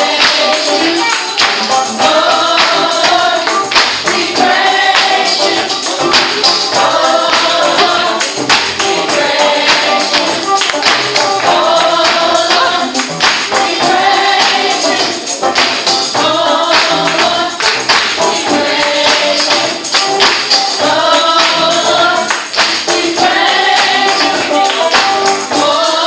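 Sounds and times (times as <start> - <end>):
tambourine beat: 0.0 - 26.0
youth choir singing gospel: 0.0 - 26.0.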